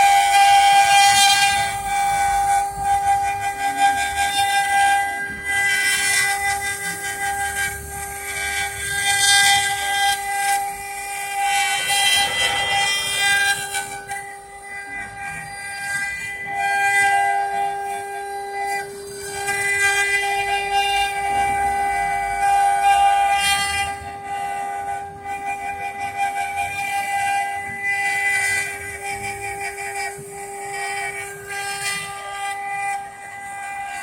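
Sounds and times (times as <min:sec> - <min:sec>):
bit cutting wood: 0:00.0 - 0:34.0
router spindle whine: 0:00.0 - 0:34.0.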